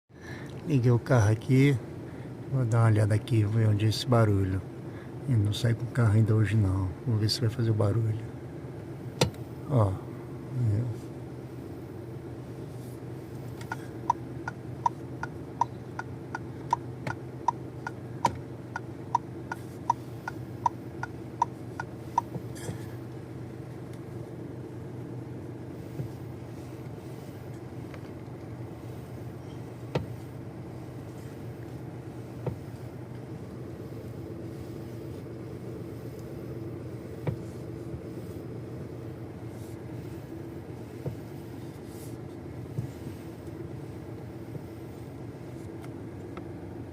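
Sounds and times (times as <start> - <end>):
car engine idling: 8.0 - 46.9.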